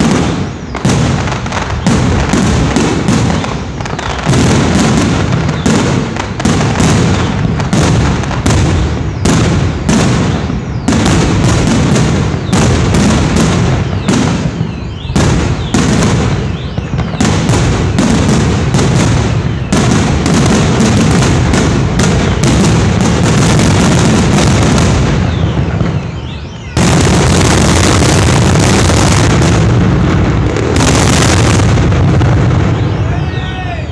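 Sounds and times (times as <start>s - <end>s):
fireworks bursting: 0.0s - 33.9s.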